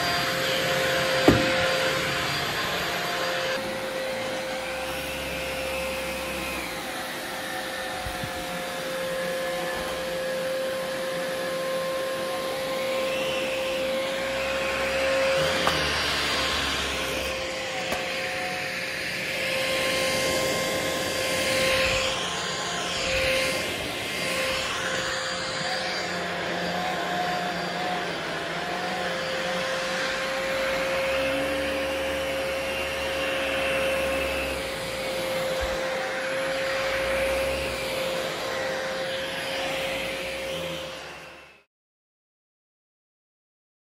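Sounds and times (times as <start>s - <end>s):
vacuum motor whine: 0.0s - 41.7s.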